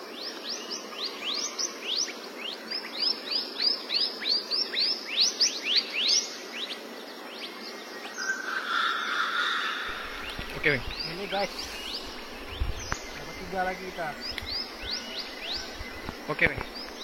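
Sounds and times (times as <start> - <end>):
steady outdoor hiss: 0.0 - 17.0
bird chirping: 0.2 - 17.0.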